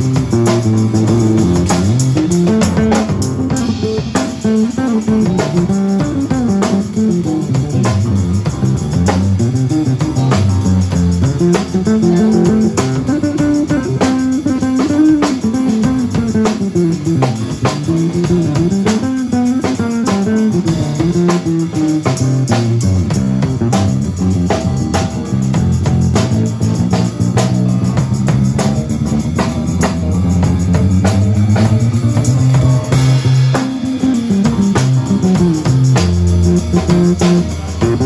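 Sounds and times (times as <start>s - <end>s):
electric bass guitar: 0.0s - 38.0s
live band music: 0.0s - 38.0s.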